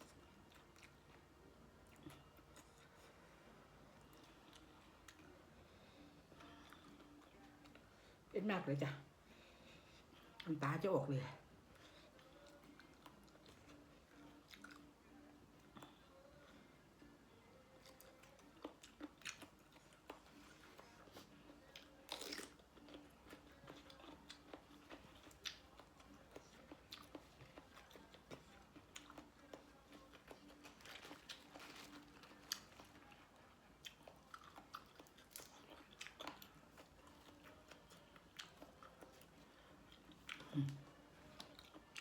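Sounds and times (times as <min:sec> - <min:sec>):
chewing and crunching: 0:00.0 - 0:08.3, 0:11.5 - 0:42.0.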